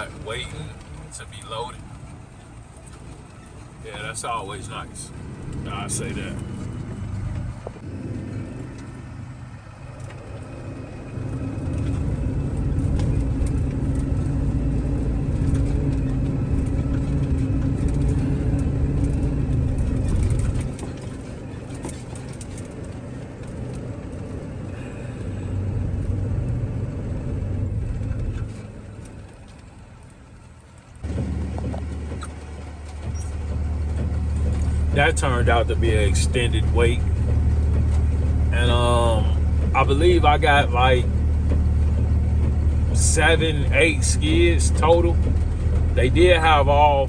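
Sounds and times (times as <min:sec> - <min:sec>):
road rumble: 0:00.0 - 0:47.0
truck engine droning: 0:00.0 - 0:47.0.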